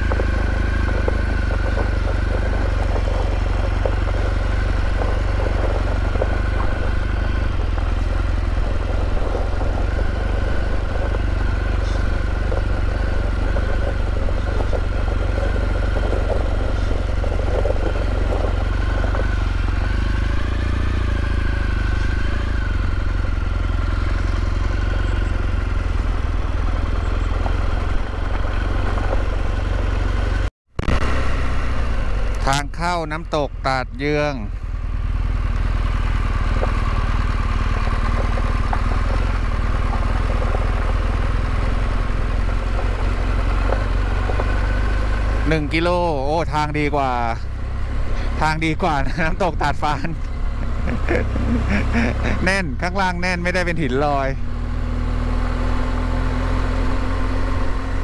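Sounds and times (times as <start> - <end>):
motorcycle engine drone: 0.0 - 58.0.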